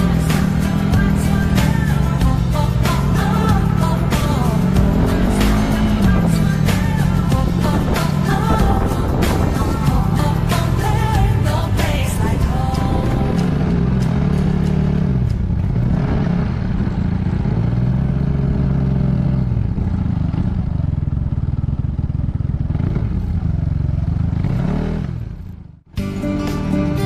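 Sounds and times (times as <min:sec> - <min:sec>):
scooter engine revving: 0:00.0 - 0:26.0.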